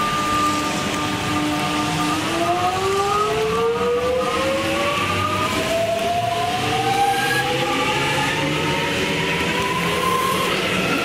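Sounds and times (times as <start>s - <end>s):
electric train accelerating: 0.0s - 11.0s.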